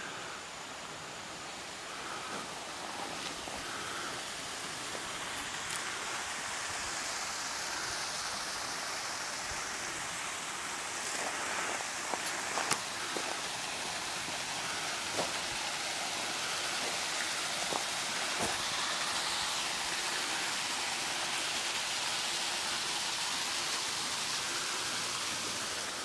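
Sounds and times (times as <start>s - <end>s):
water rushing down concrete channel: 2.0s - 26.0s.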